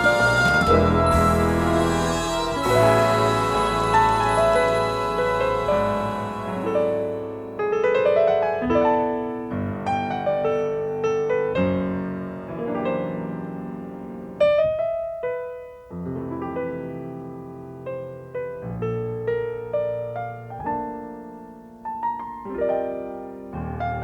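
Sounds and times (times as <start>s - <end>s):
slow solo piano: 4.0s - 24.0s.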